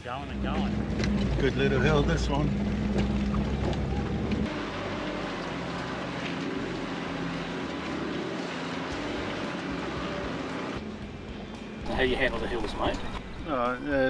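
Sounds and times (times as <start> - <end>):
vehicle engine drone: 0.0 - 13.8.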